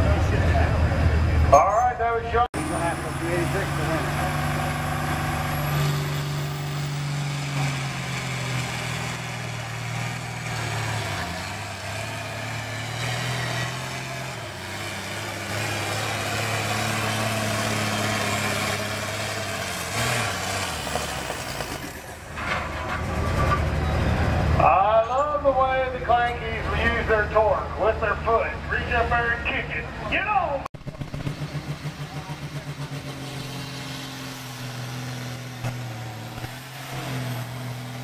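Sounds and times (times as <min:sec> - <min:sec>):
tractor engine under load: 0:00.0 - 0:30.0, 0:30.8 - 0:38.0.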